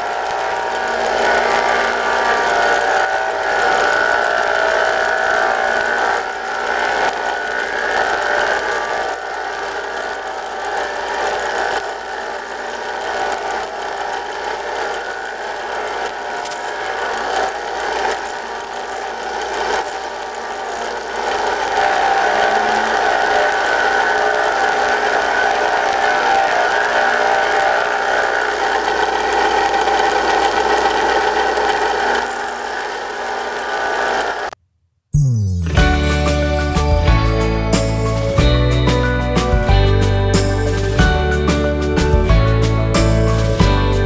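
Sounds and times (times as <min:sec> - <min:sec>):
machine tool whining: 0:00.0 - 0:34.6, 0:35.4 - 0:44.0.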